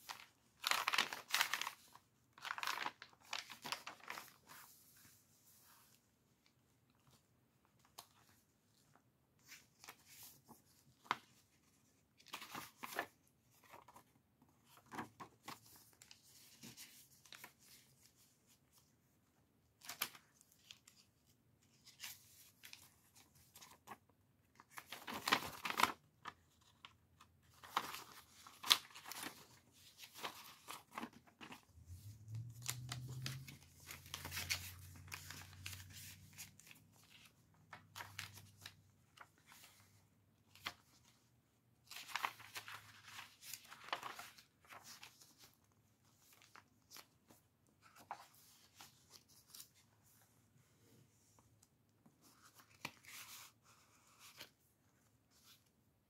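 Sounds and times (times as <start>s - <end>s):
paper rustling and crinkling: 0.0s - 19.2s, 19.8s - 55.8s.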